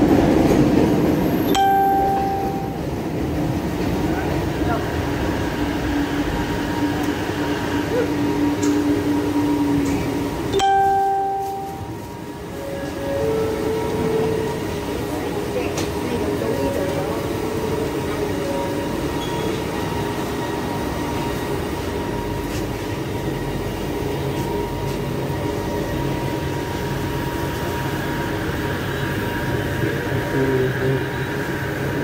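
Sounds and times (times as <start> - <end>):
metro train humming at platform: 0.0 - 32.0.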